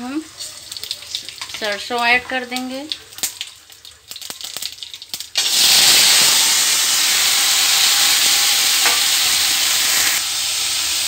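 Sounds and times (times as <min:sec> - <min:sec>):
hot oil crackling: 0:00.0 - 0:11.0
vegetable sizzling in hot oil: 0:00.0 - 0:11.0.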